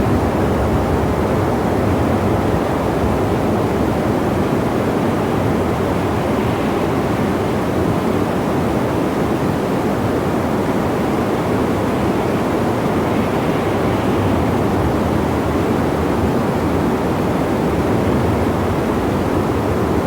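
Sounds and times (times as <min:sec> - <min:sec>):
steady wind: 0:00.0 - 0:20.0.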